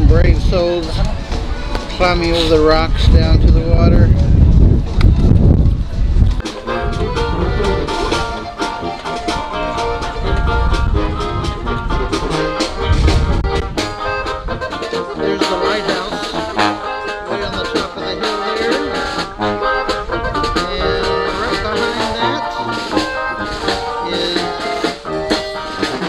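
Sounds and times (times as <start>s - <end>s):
brass band music with percussion: 0.0s - 3.2s, 6.4s - 26.0s.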